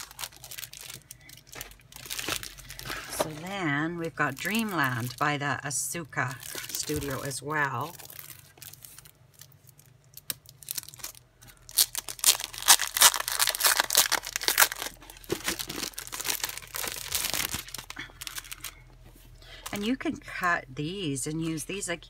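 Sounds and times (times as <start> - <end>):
plastic wrapper crinkling: 0.0 - 20.5.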